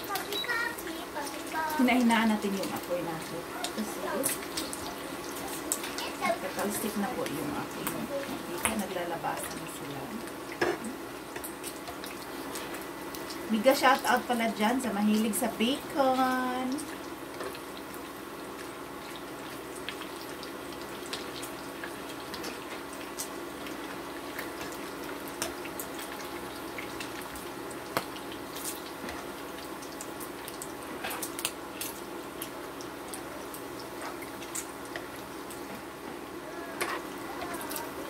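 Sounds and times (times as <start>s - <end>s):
bacon sizzling in a pan: 0.0s - 38.0s.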